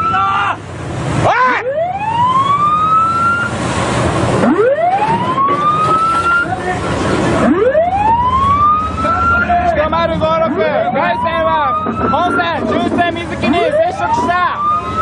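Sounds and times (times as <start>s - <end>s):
churning water: 0.0s - 15.0s
ship's siren rising wails: 0.0s - 15.0s.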